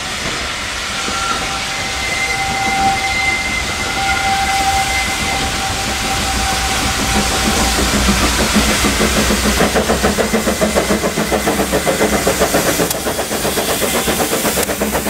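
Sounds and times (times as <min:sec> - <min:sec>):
steam locomotive running: 0:00.0 - 0:15.0.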